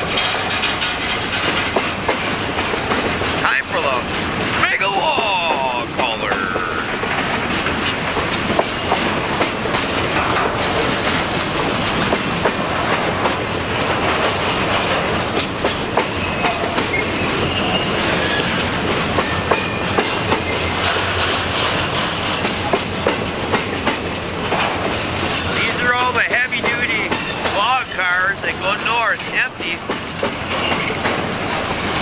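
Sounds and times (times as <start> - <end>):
train wheels clacking over rail joints: 0.0 - 32.0.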